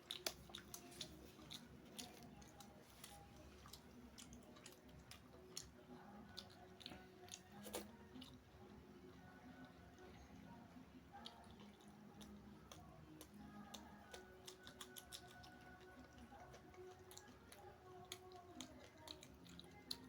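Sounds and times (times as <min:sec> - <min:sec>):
chewing and wet mouth sounds: 0:00.0 - 0:20.0.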